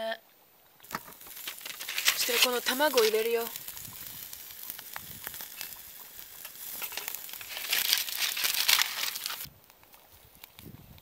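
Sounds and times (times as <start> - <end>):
aluminium foil crinkling: 0.8 - 10.6.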